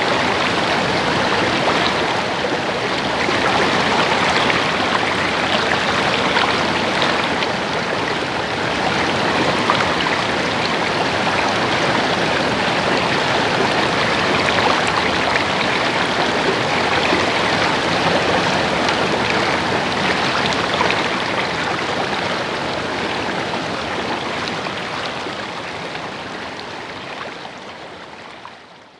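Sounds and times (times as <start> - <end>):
running water babbling: 0.0 - 28.9.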